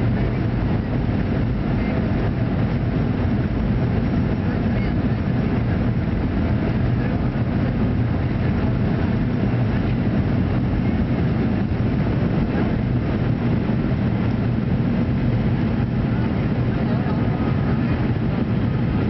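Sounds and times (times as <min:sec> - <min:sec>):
jet engines humming in cabin: 0:00.0 - 0:19.0.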